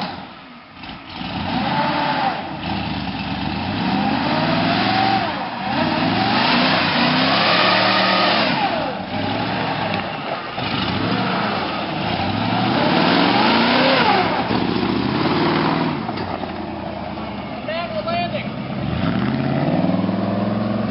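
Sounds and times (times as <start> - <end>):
truck engine revving: 0.0 - 20.9.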